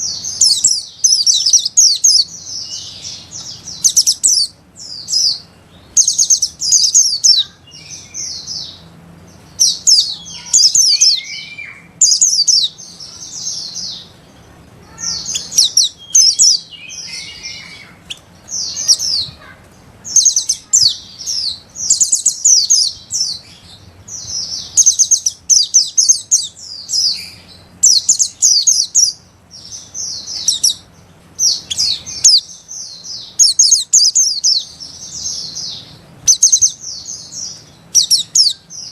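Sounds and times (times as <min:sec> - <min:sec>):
small bird twittering: 0:00.0 - 0:38.9.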